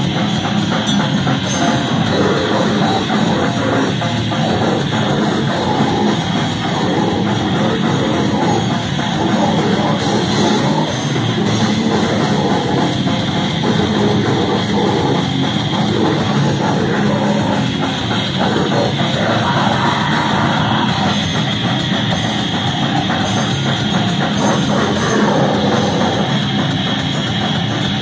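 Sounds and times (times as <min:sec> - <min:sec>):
heavy metal band playing live: 0:00.0 - 0:28.0.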